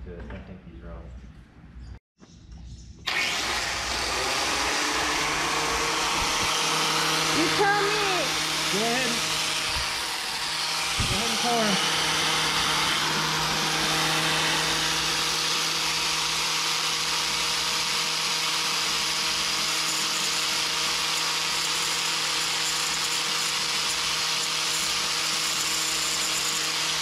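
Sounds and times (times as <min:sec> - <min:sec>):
angle grinder grinding glass: 0:03.1 - 0:27.0.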